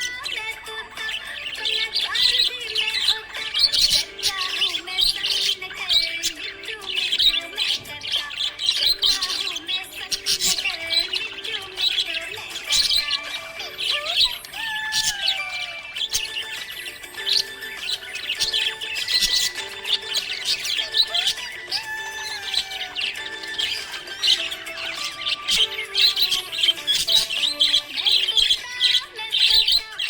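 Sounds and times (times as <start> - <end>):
budgerigar chattering: 0.0 - 30.0.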